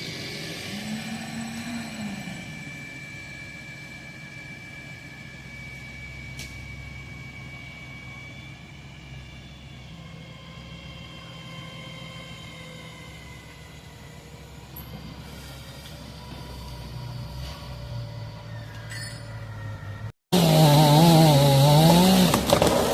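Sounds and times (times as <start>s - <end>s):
high whine: 0.0s - 20.1s
large engine droning: 0.0s - 22.9s.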